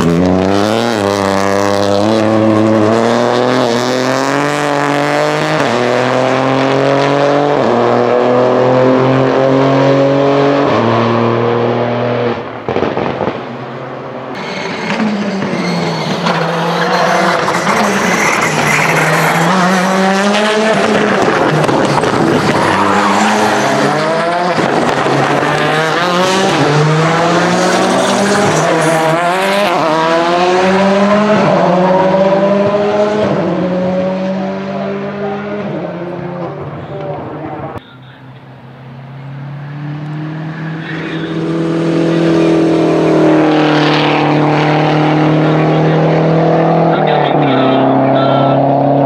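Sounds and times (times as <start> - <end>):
rally car engines revving: 0.0 - 49.0.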